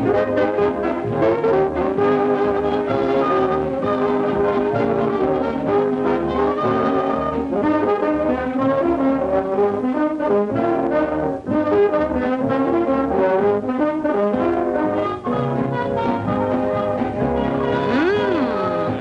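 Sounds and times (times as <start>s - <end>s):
orchestral cartoon music: 0.0s - 19.0s.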